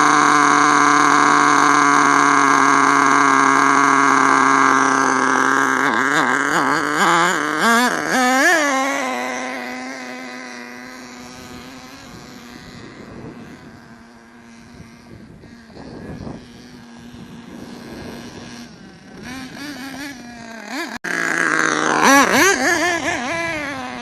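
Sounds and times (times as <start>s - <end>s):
rc truck engine buzzing: 0.0s - 24.0s.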